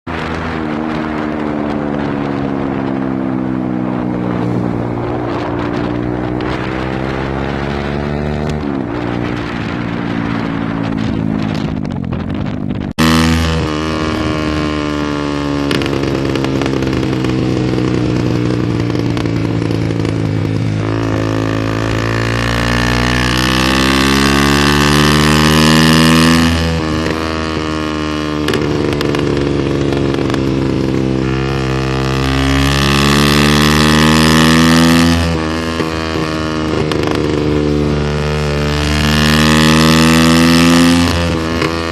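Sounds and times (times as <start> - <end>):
motorcycle engine revving: 0.1 - 41.9.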